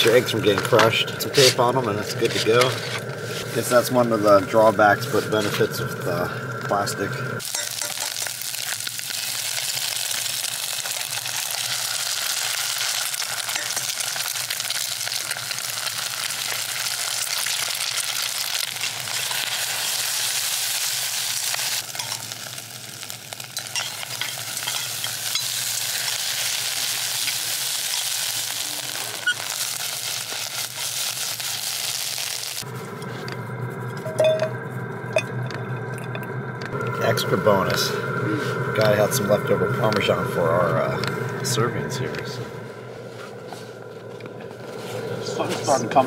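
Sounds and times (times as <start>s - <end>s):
eggs sizzling in a pan: 0.0s - 42.0s.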